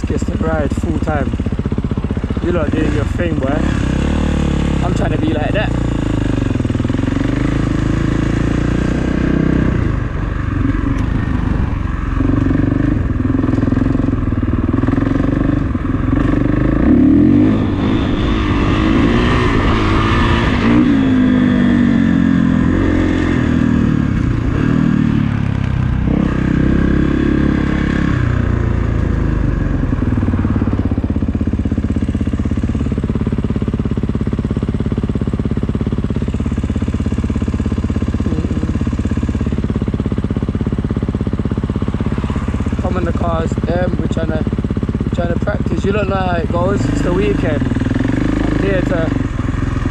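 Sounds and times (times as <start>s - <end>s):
dirt bike engine revving: 0.0s - 30.8s, 35.8s - 49.9s.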